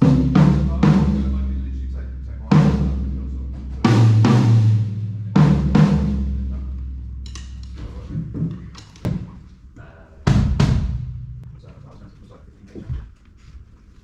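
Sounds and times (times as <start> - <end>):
low drums struck: 0.0 - 11.7.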